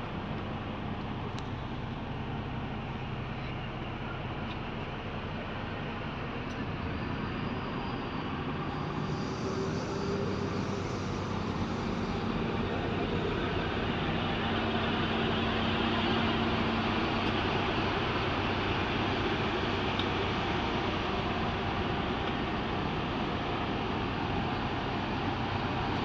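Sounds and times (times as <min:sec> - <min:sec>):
bus engine hum inside cabin: 0:00.0 - 0:26.0.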